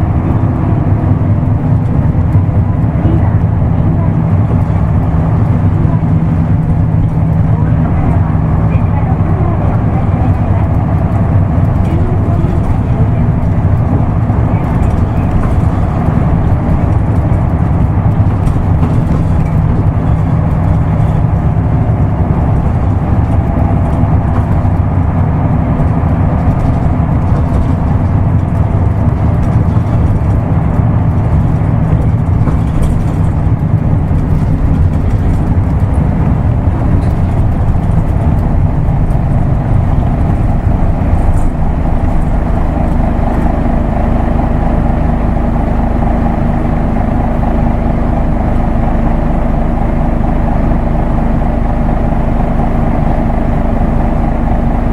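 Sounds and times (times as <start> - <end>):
bus diesel engine running: 0.0 - 54.9
road noise: 0.0 - 54.9.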